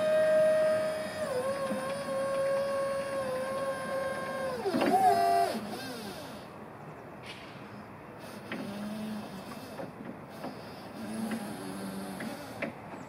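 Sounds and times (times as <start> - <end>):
hydraulic pump motor whining: 0.0 - 6.6, 8.2 - 13.0.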